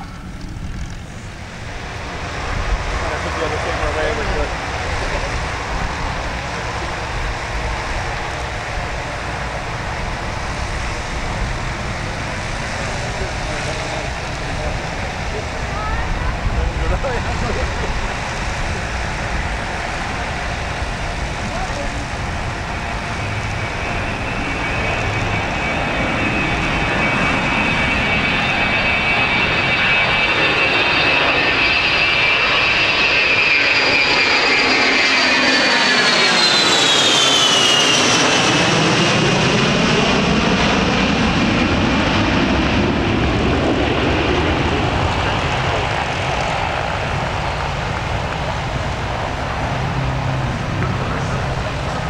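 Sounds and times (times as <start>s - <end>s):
jet aircraft flyby: 0.0s - 52.0s.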